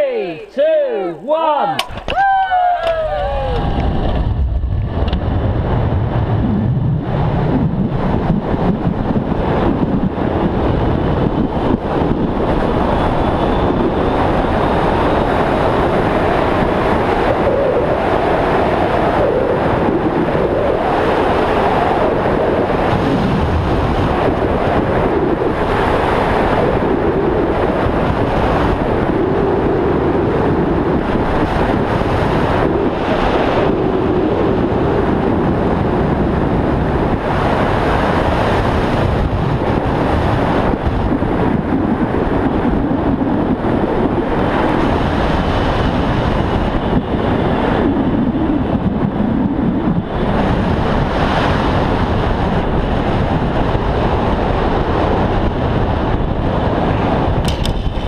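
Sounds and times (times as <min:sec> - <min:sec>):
wind buffeting microphone: 0:01.8 - 0:58.0.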